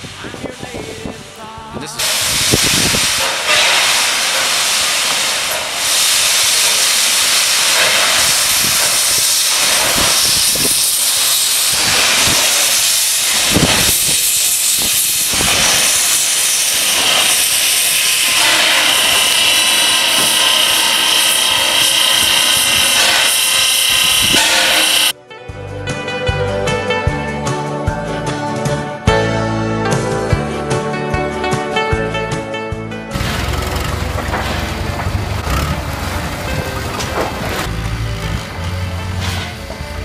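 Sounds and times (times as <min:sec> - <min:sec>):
low steam chuffs: 0:00.0 - 0:25.2, 0:33.1 - 0:40.0
steam locomotive hissing: 0:00.0 - 0:25.2, 0:33.1 - 0:40.0.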